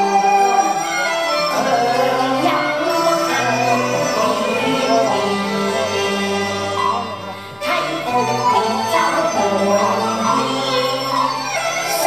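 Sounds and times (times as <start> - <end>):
opera instrumental ensemble: 0.0 - 12.0
person singing: 1.5 - 12.0.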